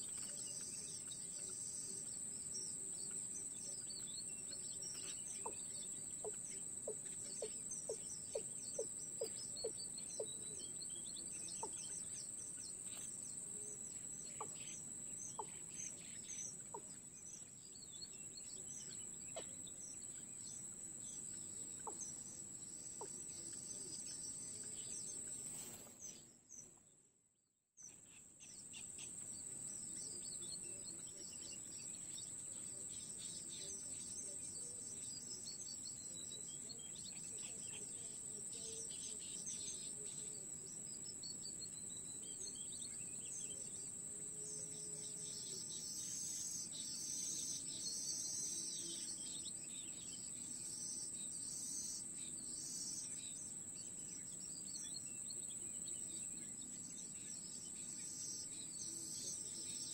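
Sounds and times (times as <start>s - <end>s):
insect drone: 0.0s - 26.6s, 27.9s - 59.9s.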